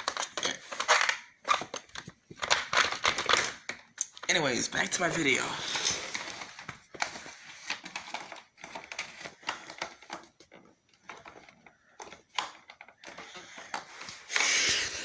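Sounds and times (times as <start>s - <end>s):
plastic vacuum parts rattling: 0.0s - 14.5s.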